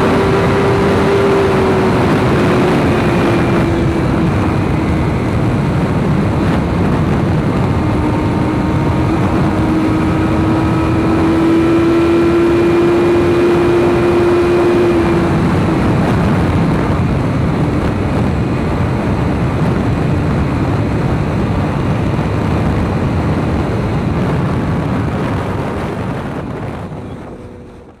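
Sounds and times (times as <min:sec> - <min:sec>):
dense rushing noise: 0:00.0 - 0:28.0
motorcycle engine running: 0:00.0 - 0:28.0.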